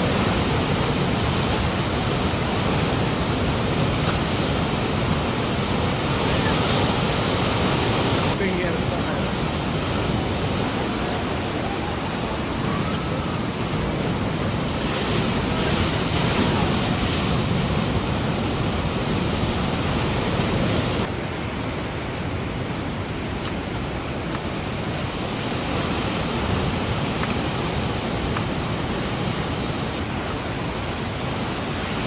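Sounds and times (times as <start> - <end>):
ocean surf: 0.0 - 32.0
wind noise on microphone: 0.0 - 32.0.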